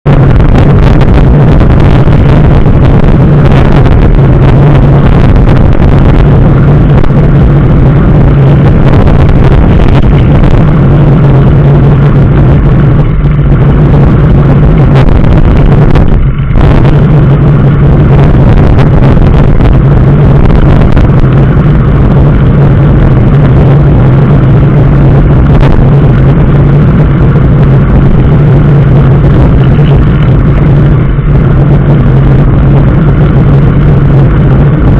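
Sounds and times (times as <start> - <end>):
vehicle engine and road drone: 0.0 - 34.9.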